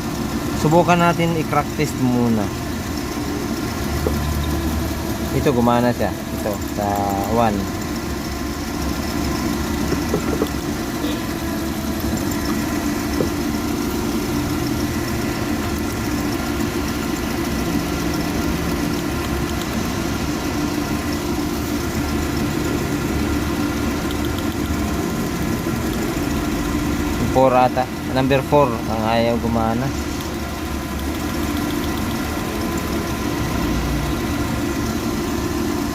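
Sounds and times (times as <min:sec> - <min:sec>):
car engine idling and misfiring: 0:00.0 - 0:35.9.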